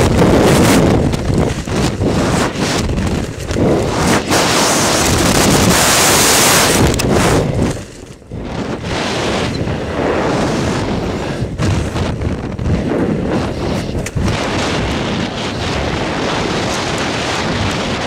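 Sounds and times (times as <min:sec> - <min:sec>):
gusty wind: 0:00.0 - 0:18.0
strong wind on microphone: 0:00.0 - 0:18.0.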